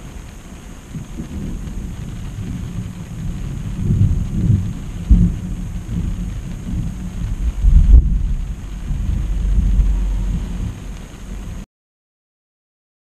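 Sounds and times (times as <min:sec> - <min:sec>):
thunder rumbling: 0:00.0 - 0:11.7.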